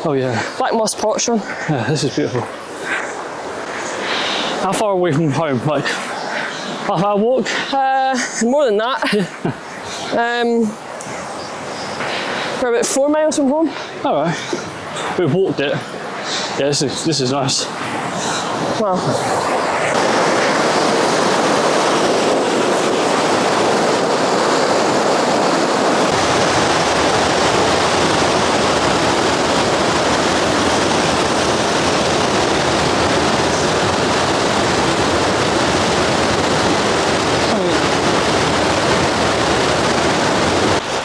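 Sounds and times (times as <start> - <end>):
waterfall rushing over boulders: 0.0 - 41.0.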